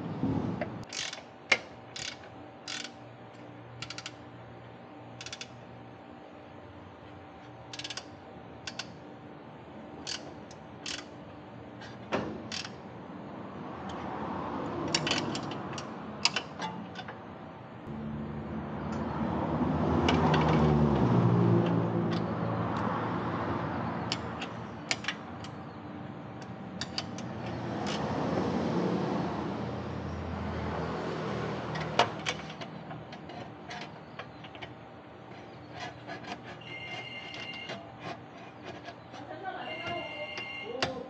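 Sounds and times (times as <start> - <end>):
vehicle engine: 0.0 - 5.6, 7.4 - 40.1.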